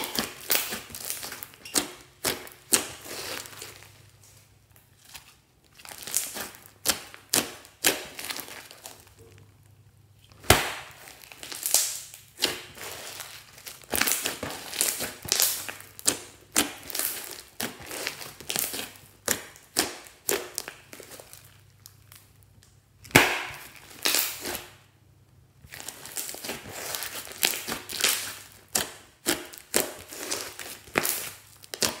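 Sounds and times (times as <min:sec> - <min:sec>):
slime squelching and popping: 0:00.0 - 0:04.9, 0:05.6 - 0:24.9, 0:25.6 - 0:32.0.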